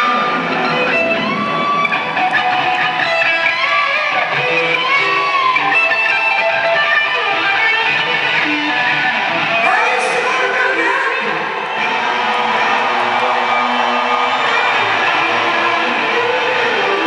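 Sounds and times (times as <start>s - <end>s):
distorted electric guitar: 0.0s - 17.0s
live rock band through pa: 0.0s - 17.0s.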